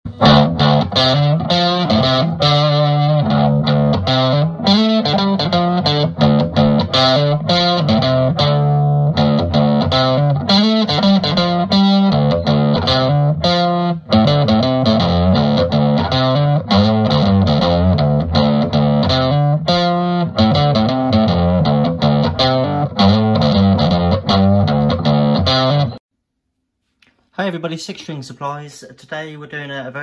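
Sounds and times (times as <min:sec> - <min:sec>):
distorted electric guitar music: 0:00.1 - 0:26.0.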